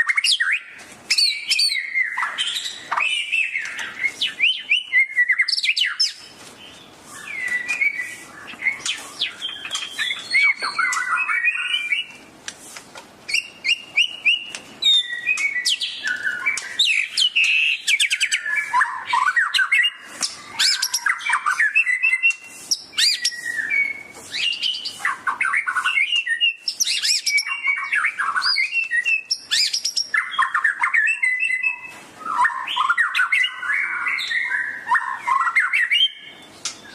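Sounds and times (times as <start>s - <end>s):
songbird singing whistled phrases: 0.0s - 12.3s, 13.3s - 36.9s.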